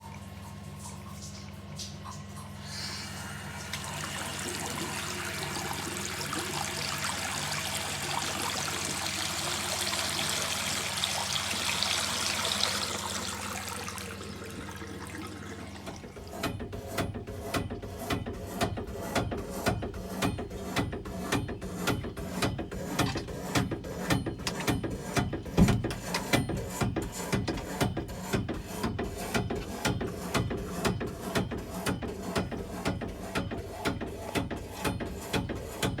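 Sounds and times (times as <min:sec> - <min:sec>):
water running: 0:00.0 - 0:16.5, 0:19.9 - 0:32.9
fast knocking in water pipes: 0:03.6 - 0:36.0.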